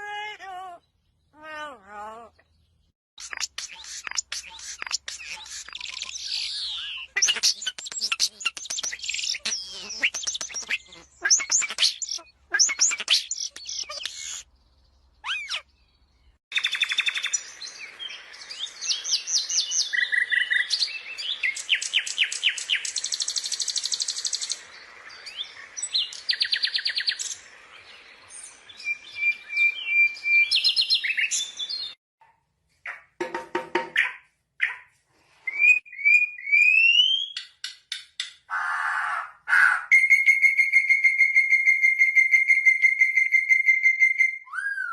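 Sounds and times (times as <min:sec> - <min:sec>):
birds chirping and trilling: 0:00.0 - 0:32.0, 0:38.5 - 0:44.9.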